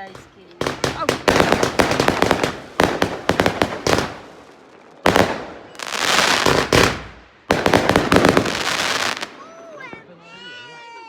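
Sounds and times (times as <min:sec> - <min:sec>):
fireworks hissing rush: 0:00.0 - 0:10.3
fireworks crackling bangs: 0:00.0 - 0:10.4.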